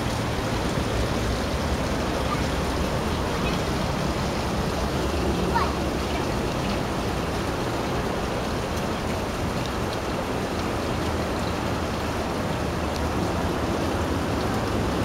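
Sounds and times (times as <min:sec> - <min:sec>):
pool water splashing: 0:00.0 - 0:15.0.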